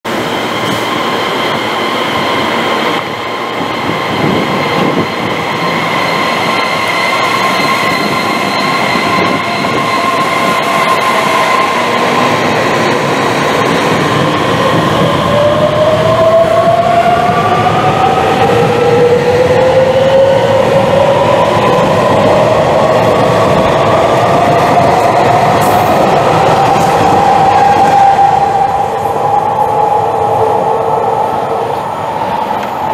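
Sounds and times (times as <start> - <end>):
train inverter high-pitched whine: 0.1 - 32.9
train rolling noise: 0.1 - 32.9.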